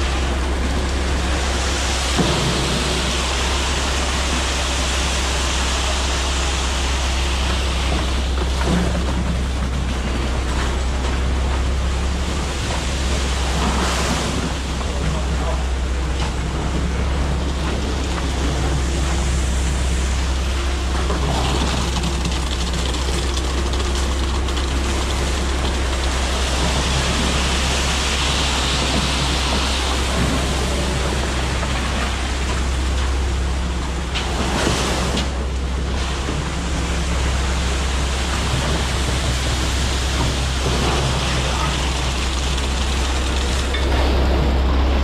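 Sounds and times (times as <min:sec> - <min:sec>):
continuous rushing noise: 0:00.0 - 0:45.0
diesel truck engine droning: 0:00.0 - 0:45.0.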